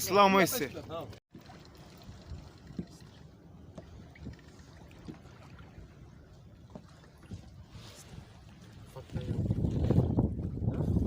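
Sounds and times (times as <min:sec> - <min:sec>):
water lapping against boat hull: 0:00.1 - 0:11.0.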